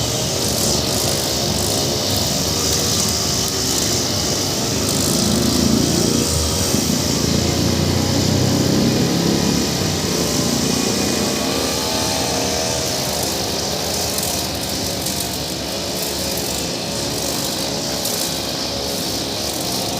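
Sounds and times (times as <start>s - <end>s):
brush cutter cutting grass: 0.0s - 19.9s.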